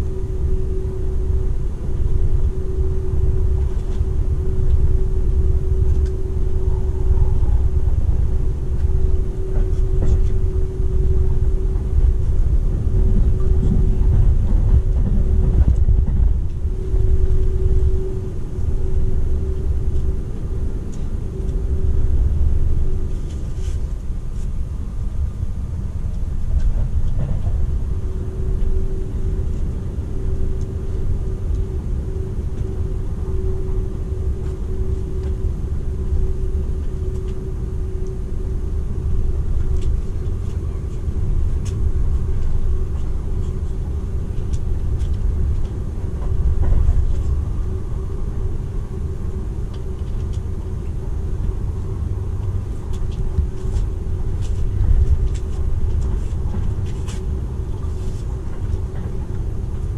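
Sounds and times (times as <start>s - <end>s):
low rumble of wheels on rail: 0.0s - 59.9s
steady hum: 0.0s - 59.9s.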